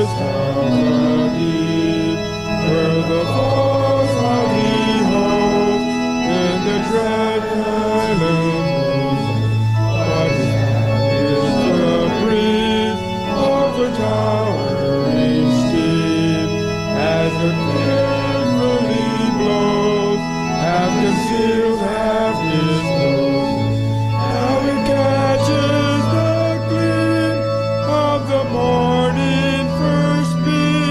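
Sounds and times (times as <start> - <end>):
organ playing a slow hymn: 0.0 - 30.9.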